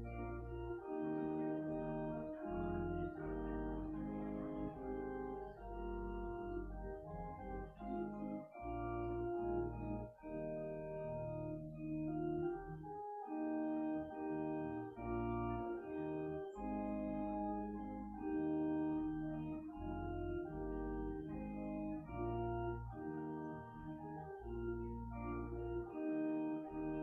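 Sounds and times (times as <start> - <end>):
church organ chords: 0.0 - 27.0.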